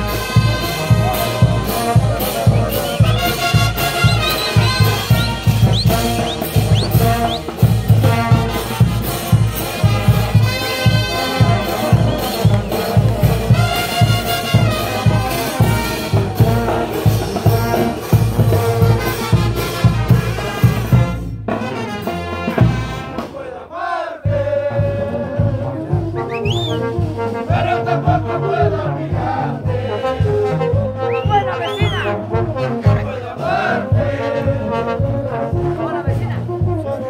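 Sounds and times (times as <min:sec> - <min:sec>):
bass drum: 0:00.0 - 0:23.6, 0:24.2 - 0:37.0
snare drum: 0:00.0 - 0:23.6, 0:24.2 - 0:34.2
brass band playing dance music: 0:00.0 - 0:37.0.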